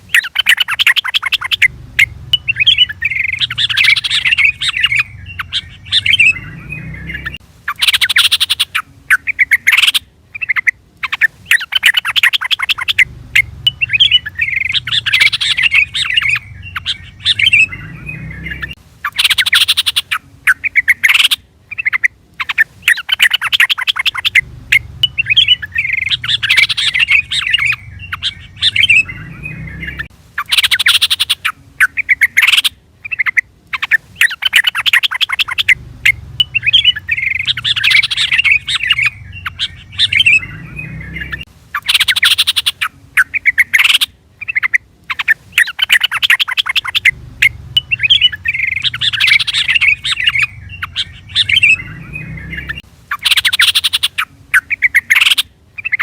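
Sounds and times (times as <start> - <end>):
bird chattering calls: 0.0 - 56.0.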